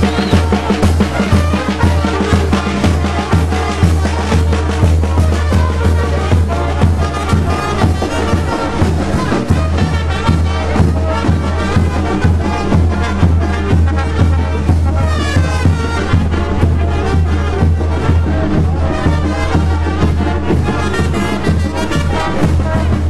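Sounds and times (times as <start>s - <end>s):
bass drum beat: 0.0s - 23.0s
brass band playing: 0.0s - 23.0s.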